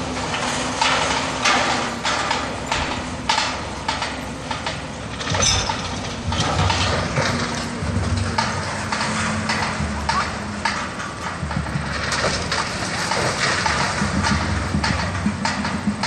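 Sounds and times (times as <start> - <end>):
crane engine hum: 0.0 - 16.0
debris clattering and knocking: 0.0 - 16.0.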